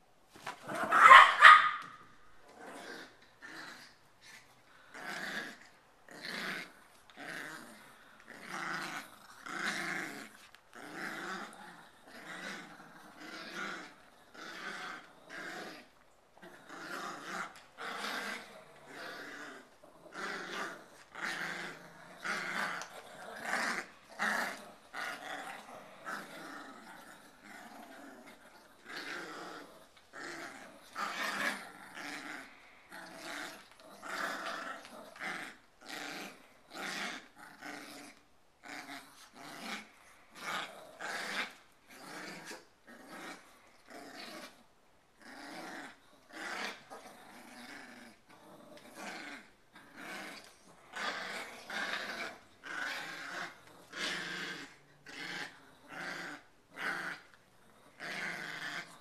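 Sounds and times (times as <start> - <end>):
dogs growling: 0.5 - 59.0.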